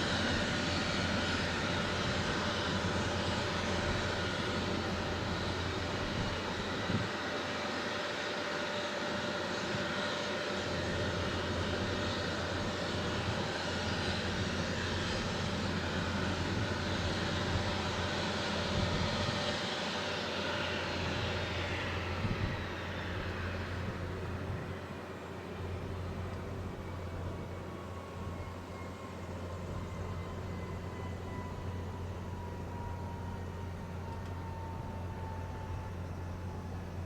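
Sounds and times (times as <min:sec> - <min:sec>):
helicopter engine whine: 0:00.0 - 0:37.0
helicopter rotor hum: 0:00.0 - 0:37.0.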